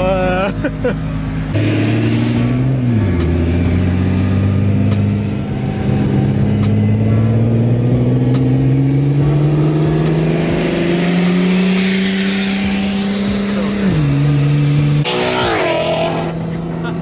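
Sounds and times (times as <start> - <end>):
turbocharged car engine running: 0.0 - 8.4, 9.1 - 17.0.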